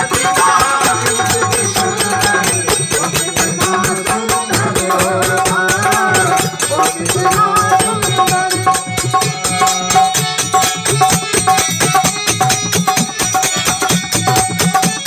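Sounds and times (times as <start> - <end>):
fast percussion beat: 0.0 - 15.0.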